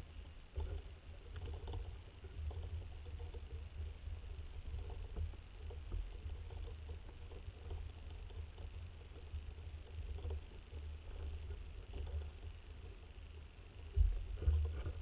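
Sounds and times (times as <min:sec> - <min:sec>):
muffled underwater rumble: 0:00.0 - 0:15.0
small underwater ticks and clicks: 0:00.0 - 0:15.0.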